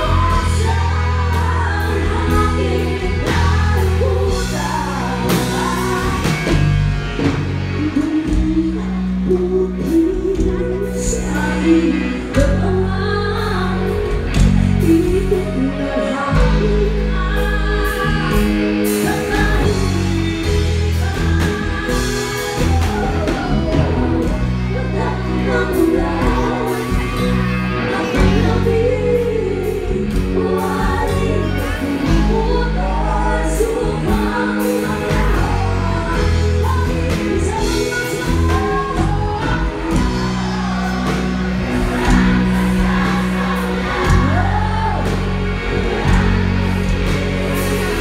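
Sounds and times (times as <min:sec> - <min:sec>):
women singing together: 0:00.0 - 0:06.7, 0:08.0 - 0:48.0
bass guitar: 0:00.0 - 0:48.0
drums: 0:00.0 - 0:48.0
electric guitar: 0:00.0 - 0:48.0.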